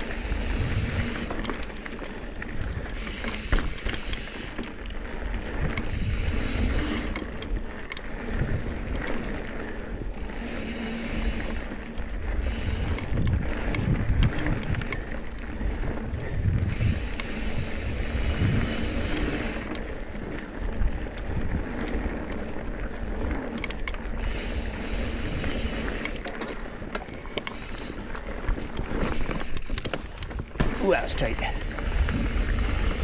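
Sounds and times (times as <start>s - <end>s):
bike clicks and rattles: 0.0s - 33.0s
bike tyres rolling on dirt: 0.0s - 33.0s
wind buffeting microphone: 0.0s - 33.0s.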